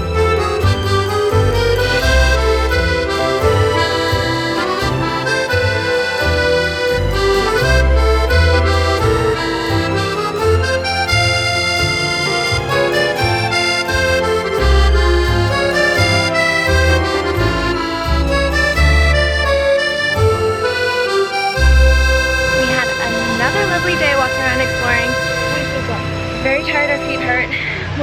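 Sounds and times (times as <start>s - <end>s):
pulsing bass line: 0.0s - 27.4s
accordion melody: 0.0s - 28.0s.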